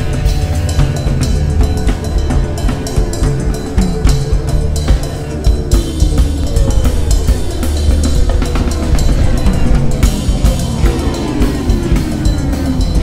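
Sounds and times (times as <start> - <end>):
bass line: 0.0 - 13.0
drum-kit beat: 0.0 - 13.0.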